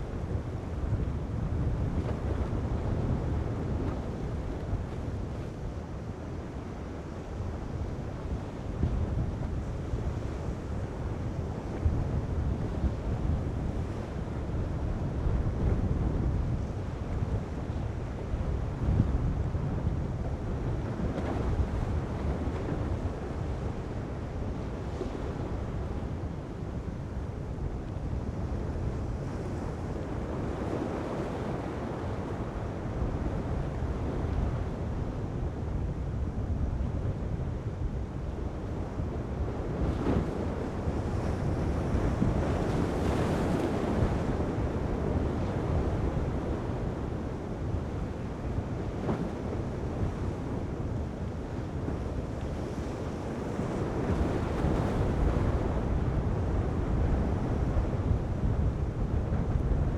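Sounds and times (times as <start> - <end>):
heavy surf: 0.0 - 59.9
wind buffeting microphone: 0.0 - 59.9.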